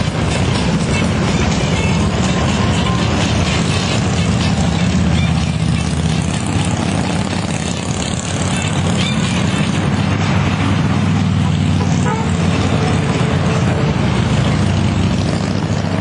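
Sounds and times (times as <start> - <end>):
motorcycle engine rumble: 0.0 - 16.0
road and wind noise: 0.0 - 16.0.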